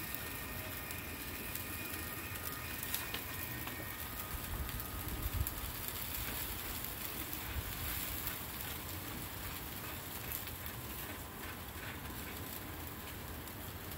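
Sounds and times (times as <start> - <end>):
charcoal fire crackling: 0.0 - 13.9
chicken wings sizzling: 0.0 - 13.9.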